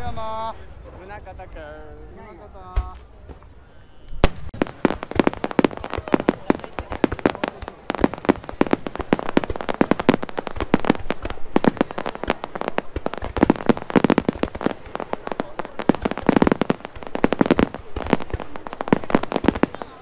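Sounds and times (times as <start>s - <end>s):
fireworks bangs and crackles: 0.0s - 1.7s, 2.4s - 20.0s.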